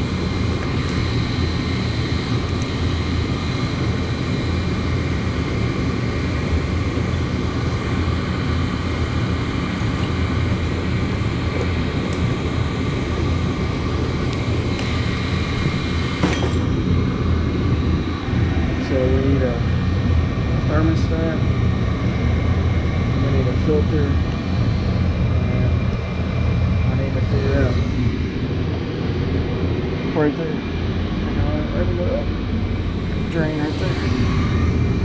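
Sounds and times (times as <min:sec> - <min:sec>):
faint high whine: 0:00.0 - 0:35.0
gas furnace running: 0:00.0 - 0:35.0.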